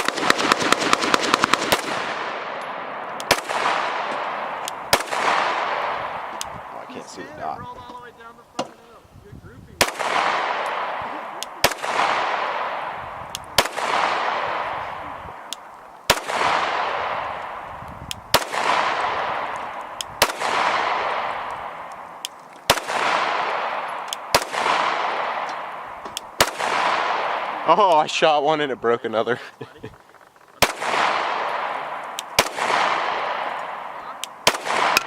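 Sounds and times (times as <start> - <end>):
pistol shots with echo: 0.0 - 6.7, 9.8 - 17.7, 18.3 - 27.8, 30.6 - 35.0.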